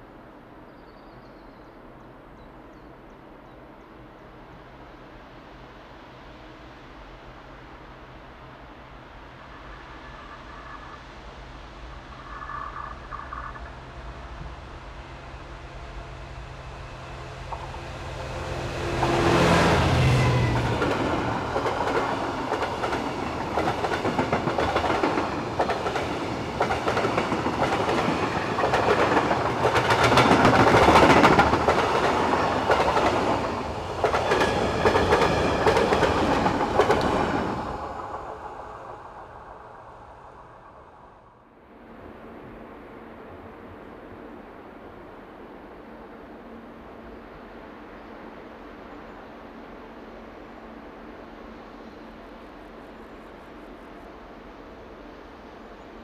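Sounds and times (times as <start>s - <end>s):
diesel locomotive engine: 3.6s - 56.0s.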